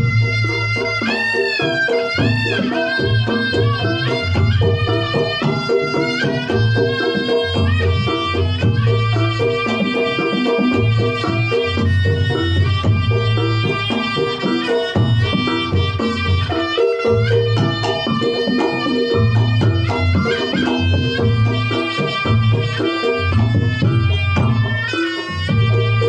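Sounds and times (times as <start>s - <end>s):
hand drums: 0.0s - 26.0s
shawm playing sliding melody: 0.0s - 26.0s.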